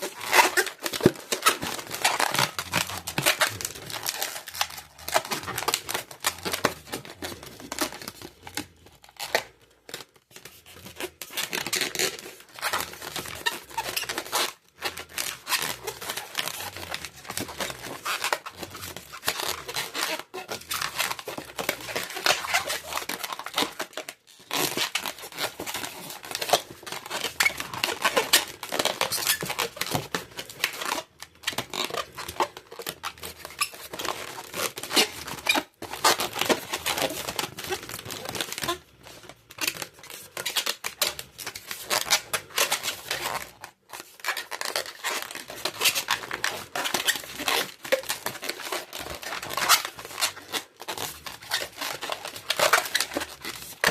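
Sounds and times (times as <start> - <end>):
balloons crackling when twisted: 0.0 - 53.9.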